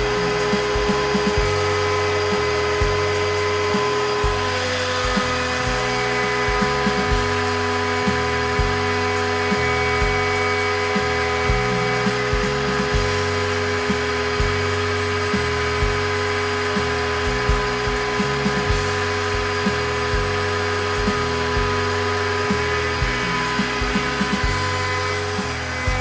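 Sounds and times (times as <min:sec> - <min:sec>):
motor tones shifting in pitch: 0:00.0 - 0:26.0
router spindle whine: 0:00.0 - 0:26.0.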